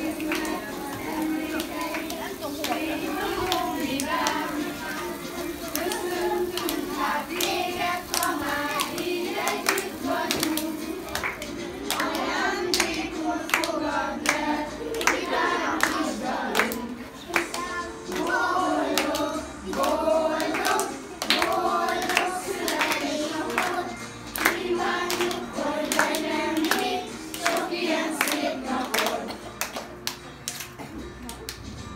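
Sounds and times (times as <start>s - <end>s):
people singing a birthday song: 0.0s - 31.0s
people clapping: 0.0s - 31.9s.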